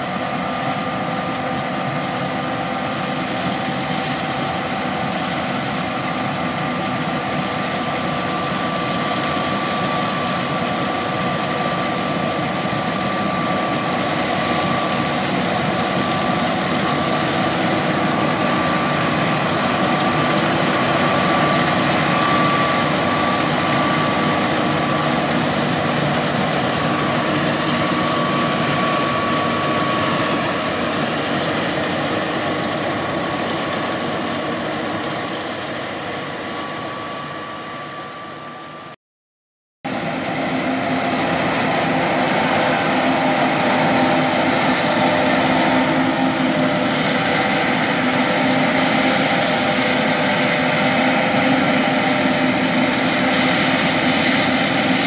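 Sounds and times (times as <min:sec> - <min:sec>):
combine harvester drone: 0:00.0 - 0:39.0, 0:39.9 - 0:55.0
whining machine tones: 0:00.0 - 0:39.0, 0:39.9 - 0:55.0.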